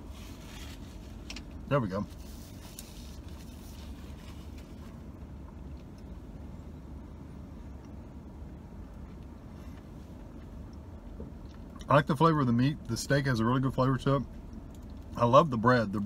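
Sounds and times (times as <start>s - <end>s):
low rumble in car cabin: 0.0s - 16.0s.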